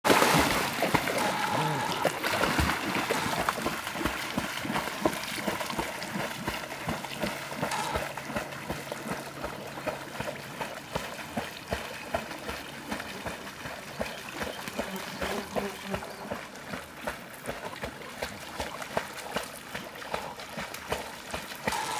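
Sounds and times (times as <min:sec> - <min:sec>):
dog paddling splashes: 0:00.0 - 0:21.9.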